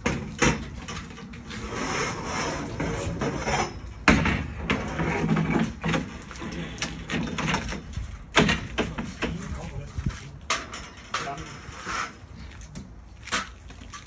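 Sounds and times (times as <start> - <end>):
metal scaffolding clanking and rattling: 0.0 - 12.3.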